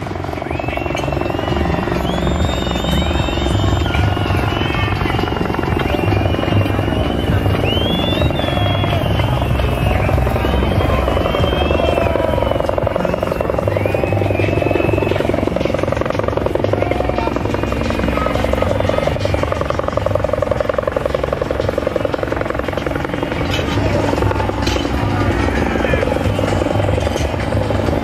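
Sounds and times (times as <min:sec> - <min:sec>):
crowd high calls: 0:00.0 - 0:28.0
helicopter rotor thrum: 0:00.0 - 0:28.0.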